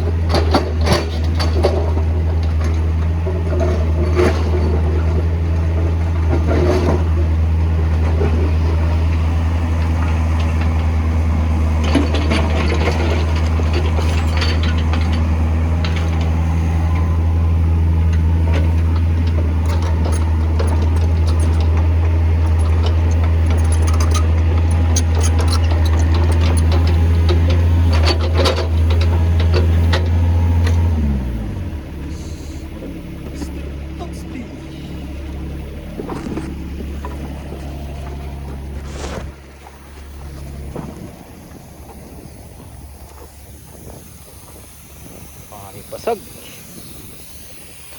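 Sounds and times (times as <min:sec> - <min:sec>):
diesel engine droning: 0:00.0 - 0:47.9
machine clanks and rattles: 0:00.0 - 0:47.9.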